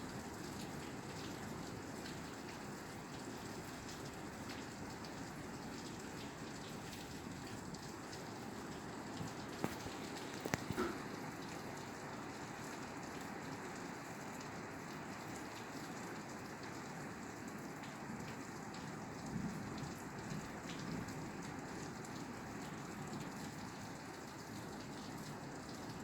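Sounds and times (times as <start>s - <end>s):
rain on a roof: 0.0s - 26.0s.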